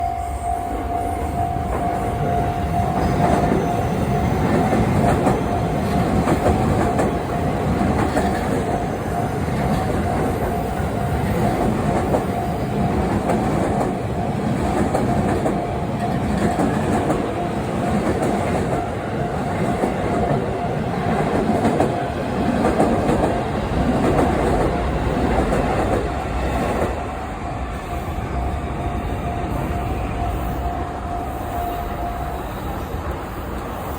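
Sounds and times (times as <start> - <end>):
crossing warning signal tone: 0.0 - 33.6
electric train wheels clacking: 0.0 - 33.9
train rumble: 0.0 - 33.9.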